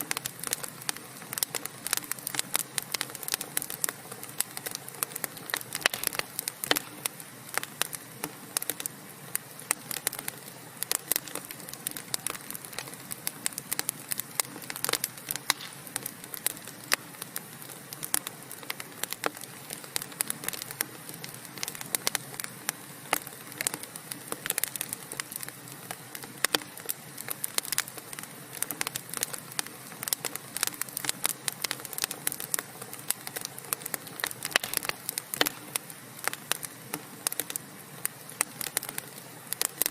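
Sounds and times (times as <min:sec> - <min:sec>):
flames hissing: 0:00.0 - 0:39.9
wood fire crackling and popping: 0:00.0 - 0:39.9.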